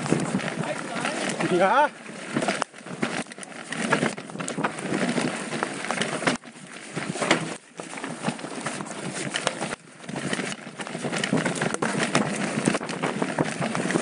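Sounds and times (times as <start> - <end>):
bike rattling and knocking: 0.0 - 14.0
tyres crunching over dirt and stones: 0.0 - 14.0.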